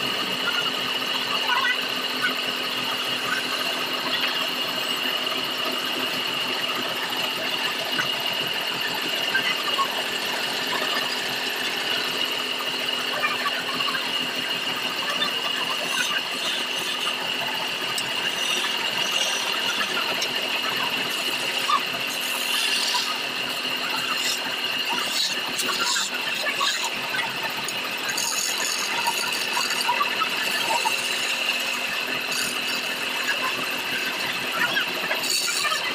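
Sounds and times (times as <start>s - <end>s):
wood lathe whining: 0.0s - 35.9s
chisel scraping spinning wood: 2.8s - 35.9s.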